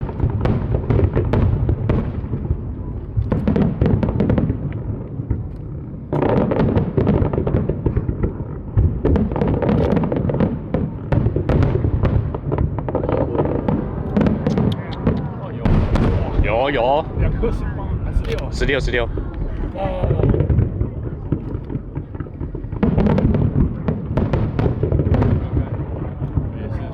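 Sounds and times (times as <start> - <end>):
deep booming firework bursts: 0.0 - 26.9
firework crackles and pops: 0.0 - 26.9.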